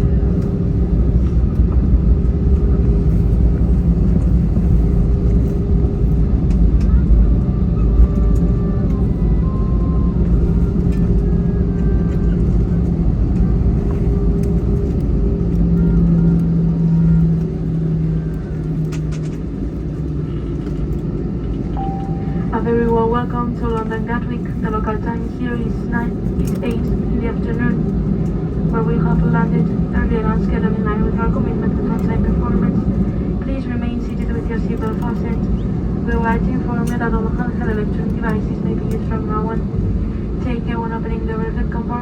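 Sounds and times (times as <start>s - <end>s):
airplane cabin low rumble: 0.0s - 42.0s
steady hum: 0.0s - 42.0s.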